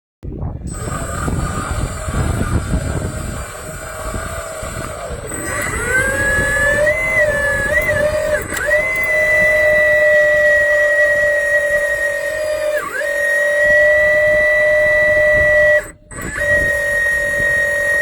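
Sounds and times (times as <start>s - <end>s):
heavy machinery rumble: 0.4s - 18.0s
wavering high whine: 0.5s - 18.0s.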